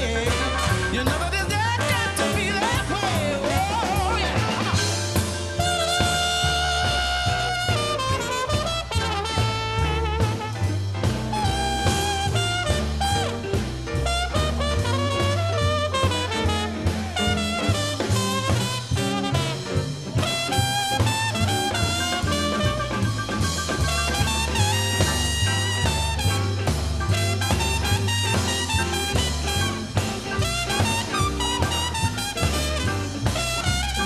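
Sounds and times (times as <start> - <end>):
drums: 0.0 - 34.0
trumpet soloing: 0.0 - 34.0
upright bass: 0.0 - 34.0.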